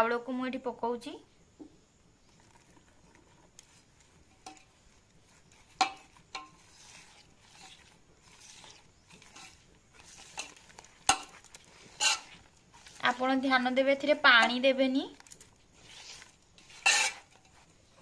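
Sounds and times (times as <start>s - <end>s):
hand squishing wet pulp: 2.3s - 13.8s, 14.5s - 18.0s.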